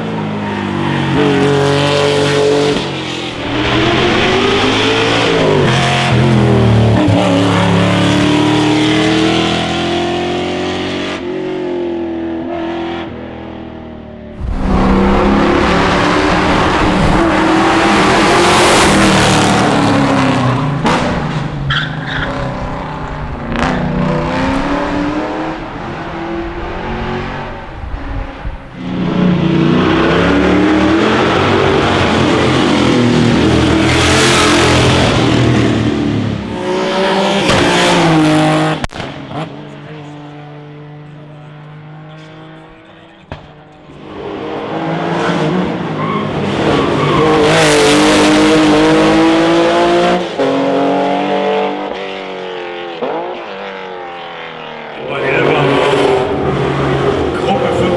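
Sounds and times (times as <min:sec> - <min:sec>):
racing car engines revving: 0:00.0 - 0:57.9.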